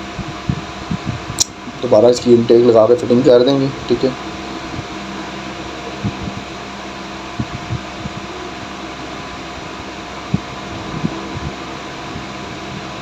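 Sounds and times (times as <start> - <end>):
mechanical whir: 0.0 - 13.0.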